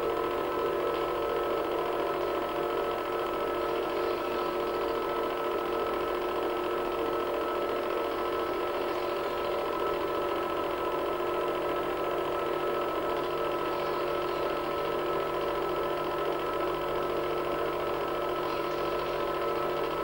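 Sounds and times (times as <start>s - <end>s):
film projector running: 0.0s - 20.0s.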